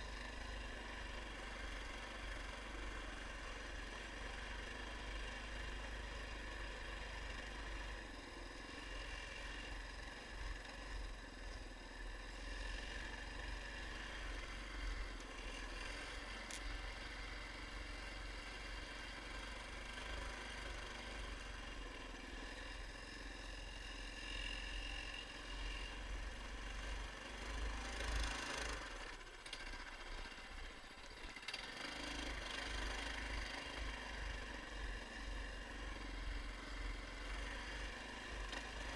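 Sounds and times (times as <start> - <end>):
small vehicle engine running: 0.0 - 38.9.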